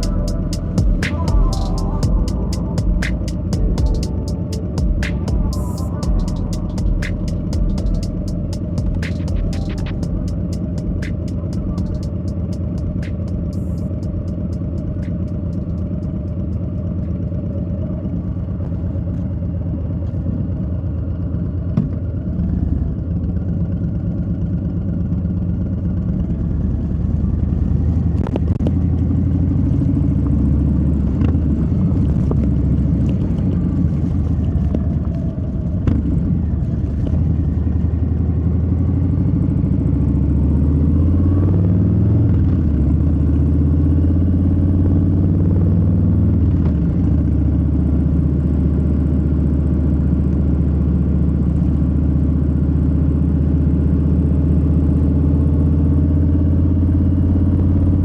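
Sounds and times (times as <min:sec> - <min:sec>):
motorcycle engine rumbling: 0:00.0 - 0:48.1.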